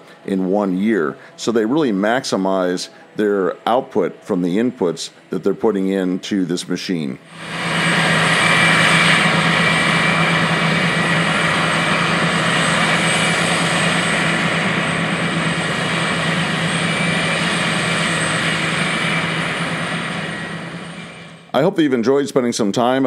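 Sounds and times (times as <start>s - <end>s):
forage harvester engine drone: 0.0s - 21.8s.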